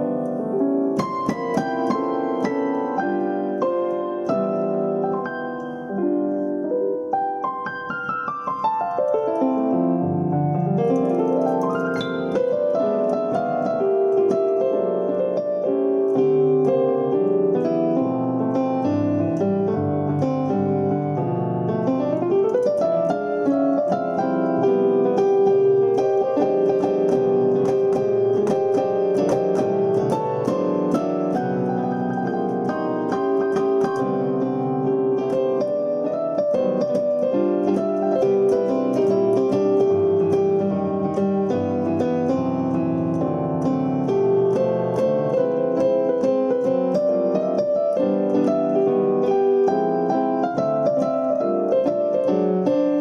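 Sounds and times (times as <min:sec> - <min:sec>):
electronic keyboard piano playing: 0:00.0 - 0:53.0.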